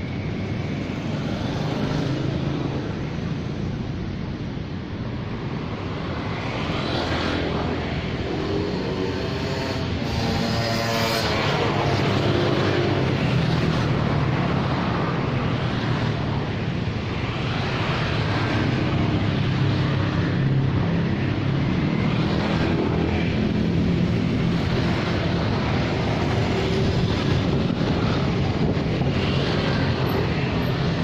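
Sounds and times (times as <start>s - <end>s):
road traffic: 0.0s - 31.0s
scooters and cars passing: 0.0s - 31.0s.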